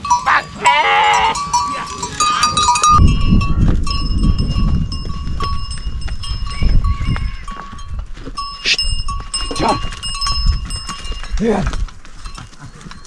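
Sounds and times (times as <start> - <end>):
small bells ringing: 0.0 - 13.0.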